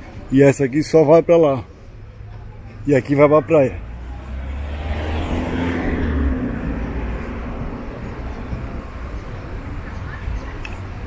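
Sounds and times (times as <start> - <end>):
car passing: 1.6 - 11.0.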